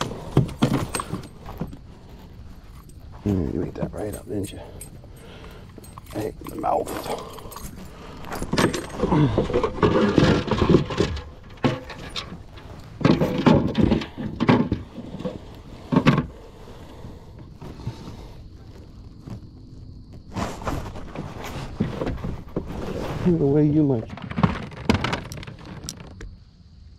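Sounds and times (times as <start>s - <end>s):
rustling of fishing gear: 0.0s - 26.2s.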